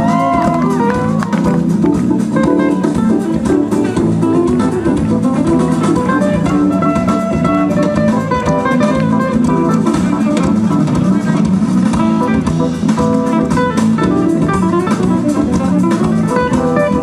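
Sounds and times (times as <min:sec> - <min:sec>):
electric guitar: 0:00.0 - 0:17.0
live band playing: 0:00.0 - 0:17.0.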